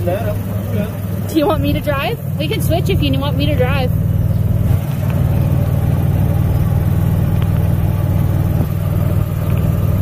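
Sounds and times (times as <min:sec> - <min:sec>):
golf cart rumbling: 0:00.0 - 0:10.0.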